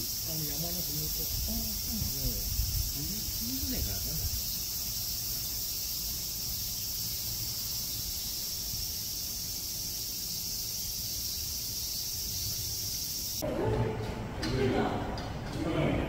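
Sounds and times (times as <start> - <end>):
crickets and night insects trilling: 0.0 - 13.4.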